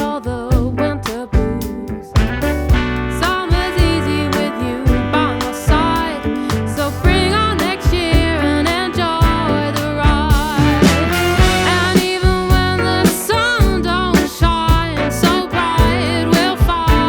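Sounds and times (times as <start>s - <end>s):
drum beat and bass: 0.0s - 17.0s
upbeat song with singing: 0.0s - 17.0s.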